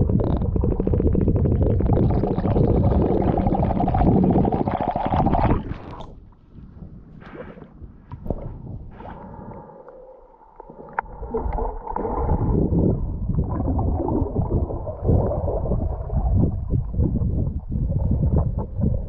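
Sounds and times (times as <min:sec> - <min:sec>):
muffled underwater rush and bubbling: 0:00.0 - 0:19.0
water sloshing and gurgling: 0:00.0 - 0:19.0.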